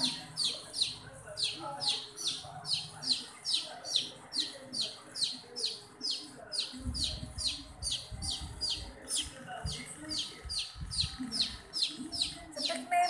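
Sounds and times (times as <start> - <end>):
chick peeping: 0.0 - 12.9.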